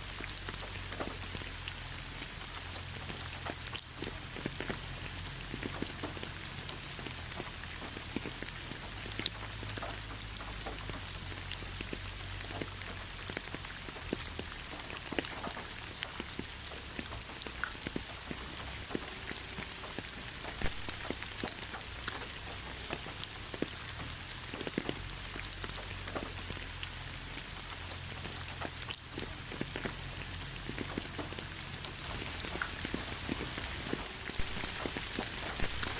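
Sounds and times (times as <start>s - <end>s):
rain hissing: 0.0s - 35.9s
raindrops ticking: 0.0s - 35.9s.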